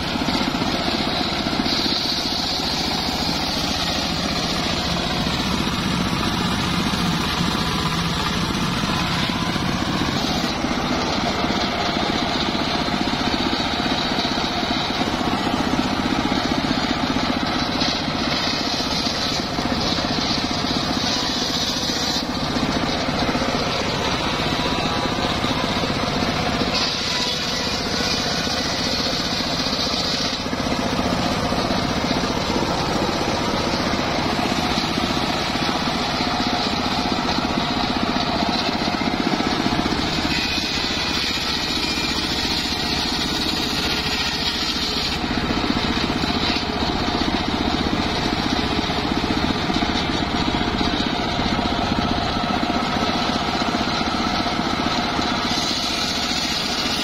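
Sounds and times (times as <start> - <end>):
engine running: 0.0 - 57.0
saw blade cutting wood: 0.0 - 57.0.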